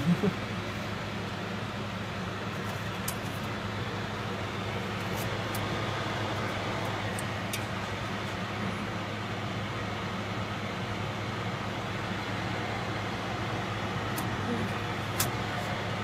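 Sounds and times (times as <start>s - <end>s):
air circulation fans humming: 0.0s - 16.0s.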